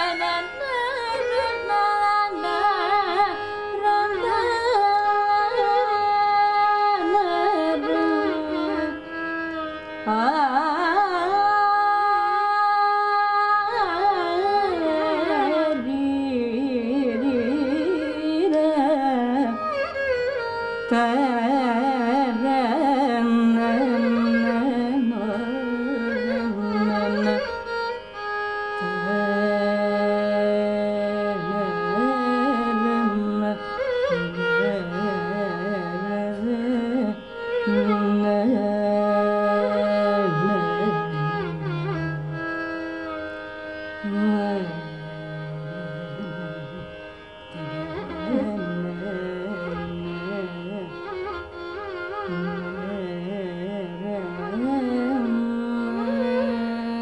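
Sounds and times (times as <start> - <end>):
violin: 0.0 - 57.0
woman singing classical: 0.0 - 57.0.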